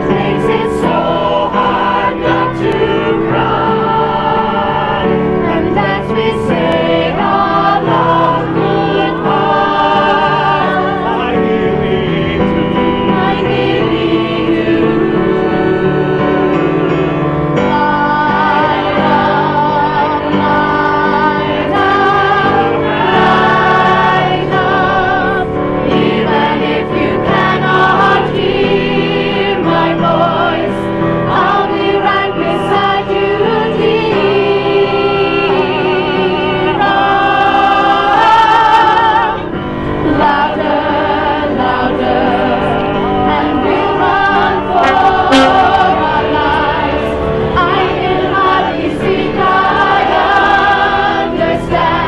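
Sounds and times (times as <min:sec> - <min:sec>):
choir singing: 0:00.0 - 0:52.0.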